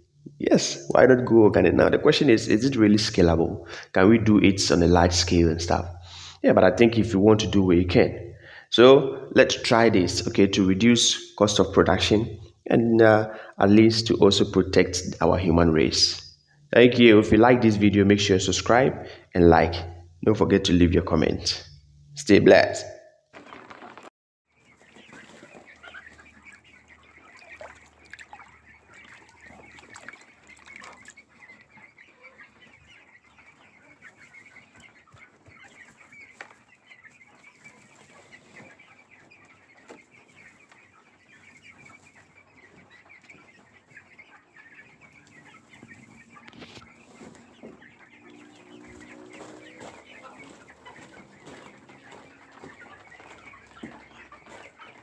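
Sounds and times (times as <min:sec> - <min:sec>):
chickens clucking and chirping: 0:00.0 - 0:55.0.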